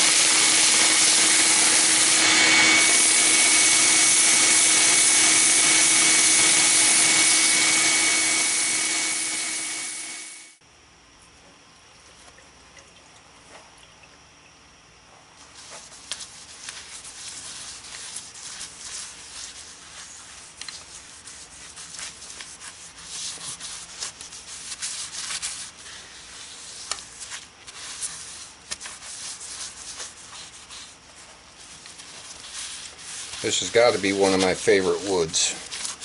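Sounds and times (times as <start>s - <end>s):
sandpaper hissing on spinning wood: 0.0s - 10.6s, 15.6s - 36.0s.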